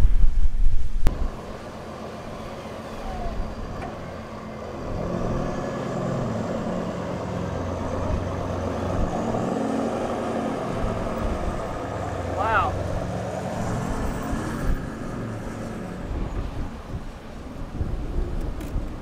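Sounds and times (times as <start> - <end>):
engine running under load: 1.0 - 19.0.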